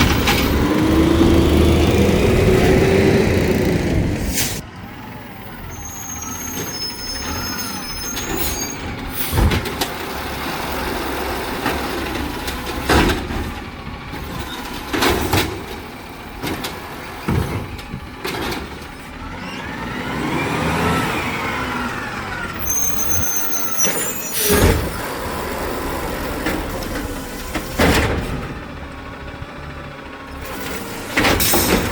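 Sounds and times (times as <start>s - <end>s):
hydraulics rising and falling: 0.0s - 28.5s
garbage truck engine running: 0.0s - 31.9s.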